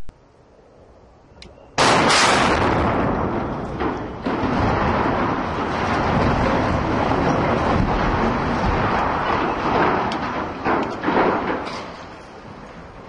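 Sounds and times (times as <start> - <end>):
explosive blasts: 1.8 - 13.0
loud rumble of falling steel: 1.8 - 13.0.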